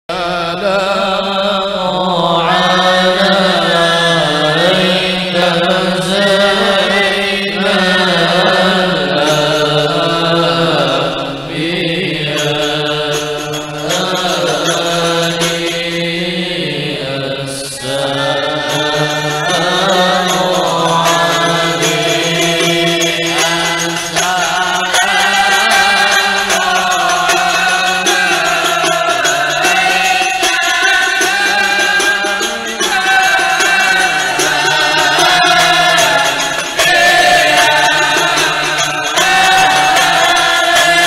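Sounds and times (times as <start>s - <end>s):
men chanting devotional song: 0.1s - 41.0s.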